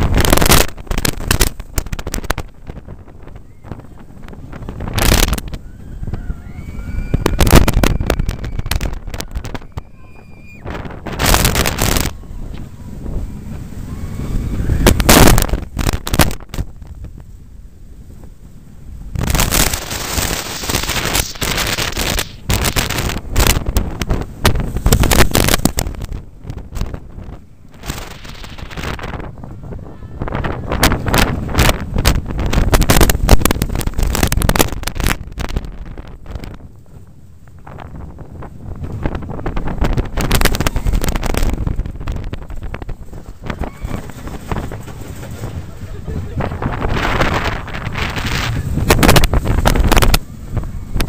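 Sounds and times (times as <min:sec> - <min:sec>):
roller coaster rumble and clatter: 0:00.0 - 0:51.0
wind buffeting microphone: 0:00.0 - 0:51.0.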